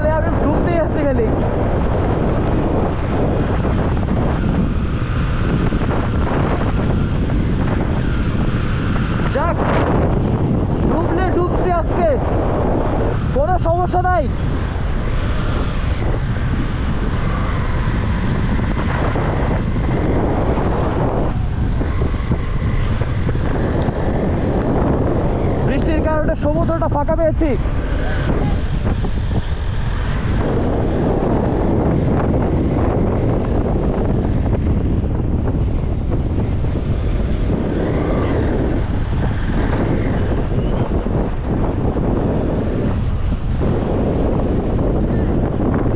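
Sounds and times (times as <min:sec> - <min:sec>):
motorcycle engine running: 0:00.0 - 0:45.9
rough surf: 0:00.0 - 0:45.9
wind buffeting microphone: 0:00.0 - 0:45.9.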